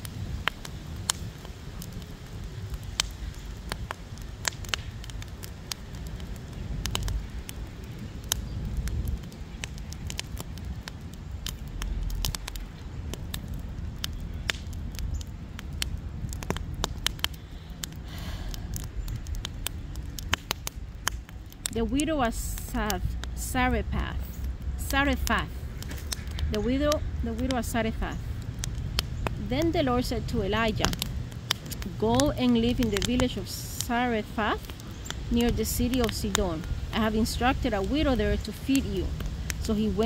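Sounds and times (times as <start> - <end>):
fire crackling and popping: 0.0 - 40.0.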